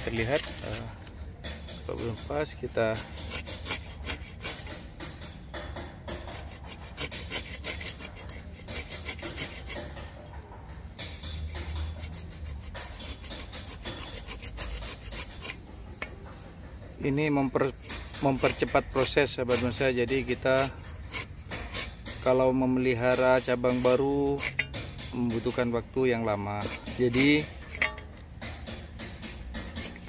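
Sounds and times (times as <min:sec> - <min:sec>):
hand saw rasping through branch: 0:00.0 - 0:01.0, 0:01.9 - 0:10.2, 0:11.2 - 0:16.1, 0:17.0 - 0:30.0.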